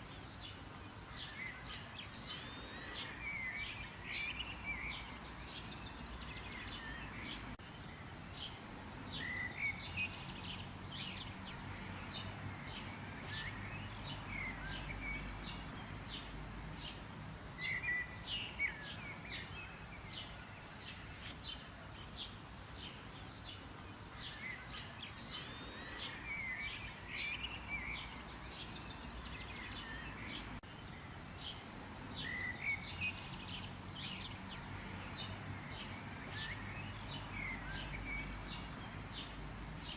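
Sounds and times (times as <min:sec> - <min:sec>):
birds chirping and calling: 0:00.0 - 0:17.0, 0:17.6 - 0:39.9.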